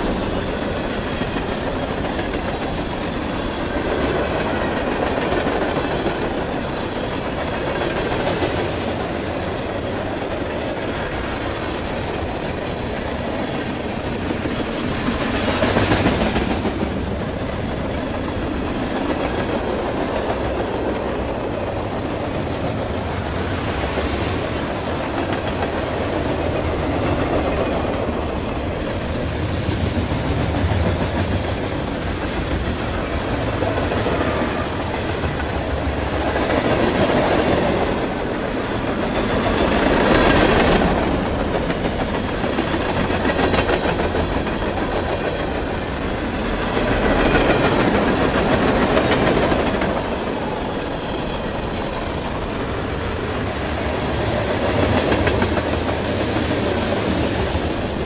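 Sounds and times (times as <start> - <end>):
freight train wheels on track: 0.0 - 58.0.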